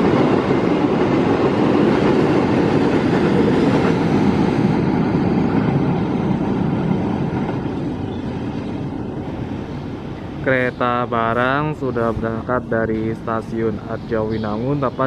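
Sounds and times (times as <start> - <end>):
freight train wheels rumbling on rail: 0.0 - 15.0.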